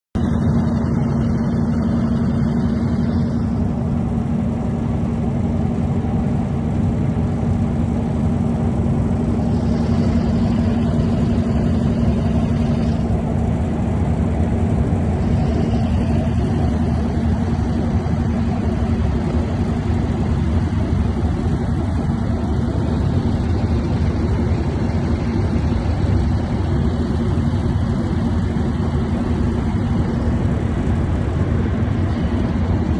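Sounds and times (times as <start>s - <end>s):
constant low hum: 0.2s - 32.9s
train rumbling: 0.2s - 32.9s.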